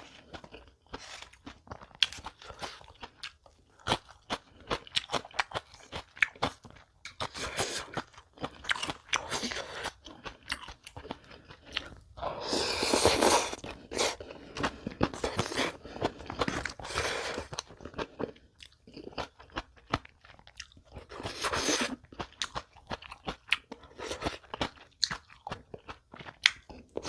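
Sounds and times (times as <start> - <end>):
chewing and crunching food: 0.0 - 27.0.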